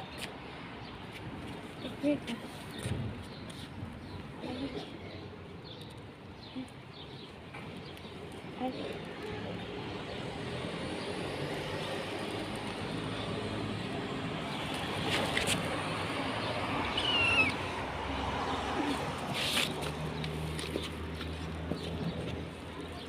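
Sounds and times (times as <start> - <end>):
low hum of distant traffic: 0.0 - 23.0.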